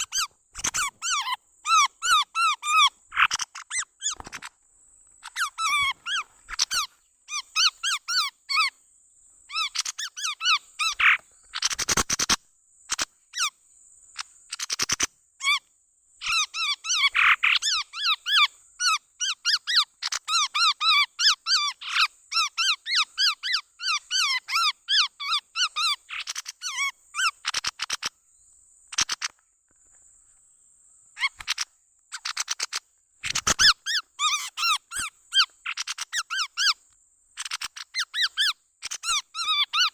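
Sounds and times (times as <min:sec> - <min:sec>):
bird squeaky chirping: 0:00.0 - 0:04.5, 0:05.2 - 0:08.7, 0:09.5 - 0:13.5, 0:16.2 - 0:28.1, 0:31.2 - 0:36.8, 0:37.4 - 0:39.9.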